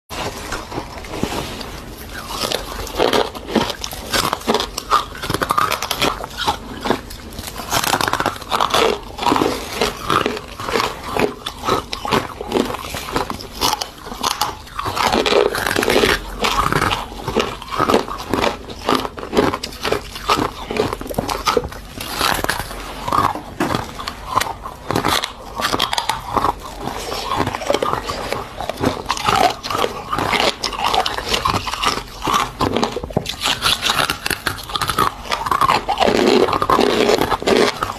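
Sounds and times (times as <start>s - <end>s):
chewing ice crunches: 0.1s - 37.9s.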